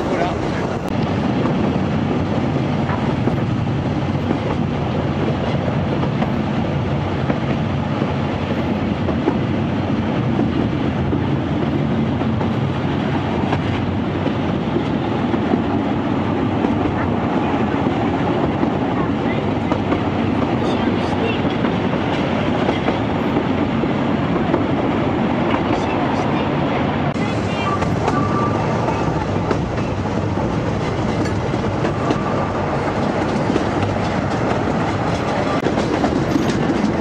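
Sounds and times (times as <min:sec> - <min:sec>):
train carriages rumbling on track: 0:00.0 - 0:37.0.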